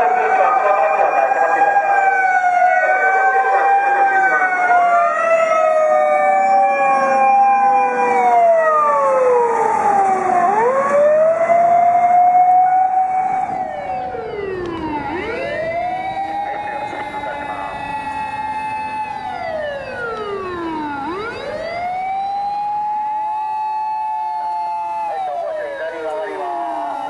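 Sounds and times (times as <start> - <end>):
sirens wailing: 0.0 - 27.0.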